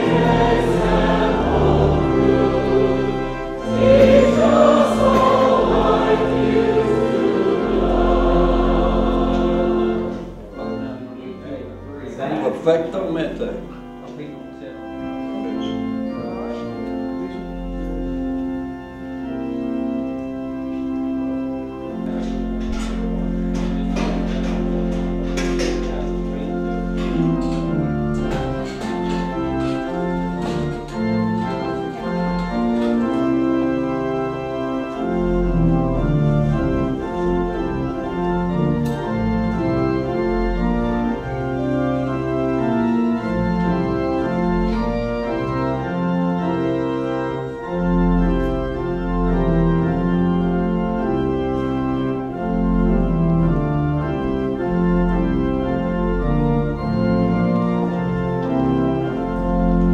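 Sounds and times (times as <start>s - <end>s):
low organ bass notes: 0.0s - 59.9s
organ chords: 0.0s - 59.9s.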